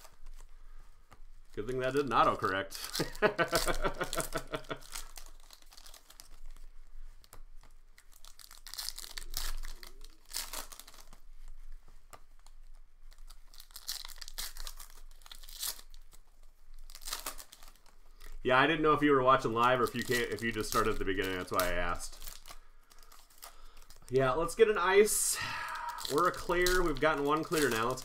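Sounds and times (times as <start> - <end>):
card pack wrappers tearing: 0.0 - 0.5, 1.5 - 6.7, 7.3 - 11.3, 12.4 - 28.0.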